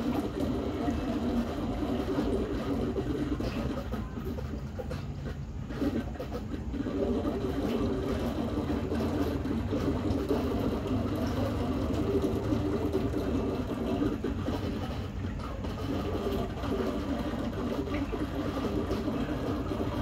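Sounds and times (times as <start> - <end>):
aquarium water pump humming: 0.0 - 20.0.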